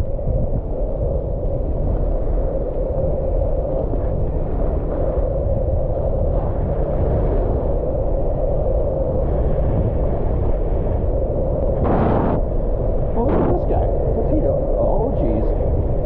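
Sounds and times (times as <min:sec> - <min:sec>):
wind rush on microphone: 0:00.0 - 0:16.0.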